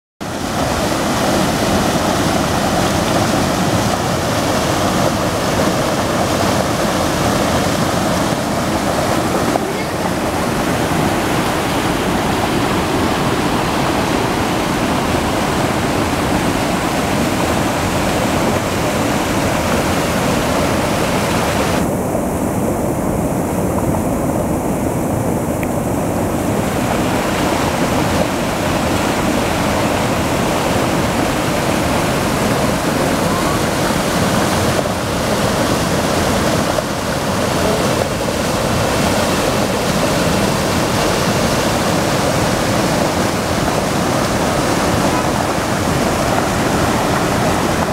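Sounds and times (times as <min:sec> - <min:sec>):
river rushing over boulders: 0:00.2 - 0:47.9.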